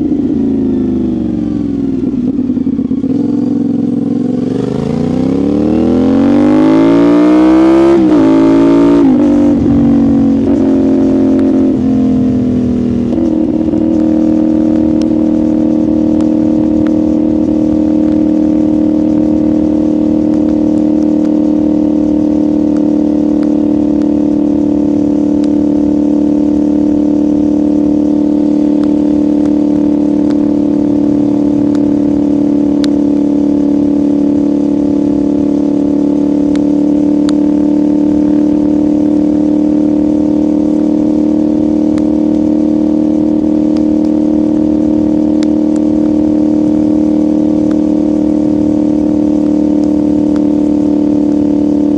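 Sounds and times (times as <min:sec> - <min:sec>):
motorcycle engine running steadily: 0:00.0 - 0:51.9.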